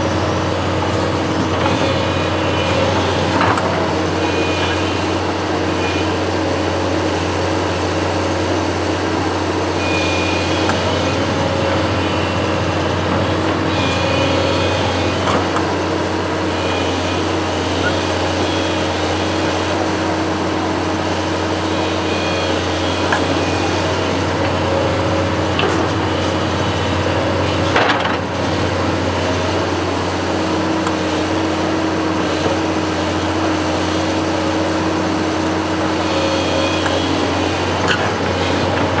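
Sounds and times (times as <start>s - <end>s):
construction machine engine running: 0.0s - 39.0s.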